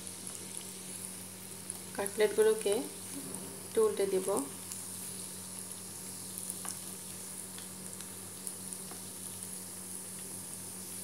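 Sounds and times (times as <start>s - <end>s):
cutlets sizzling in hot oil: 0.0s - 11.0s.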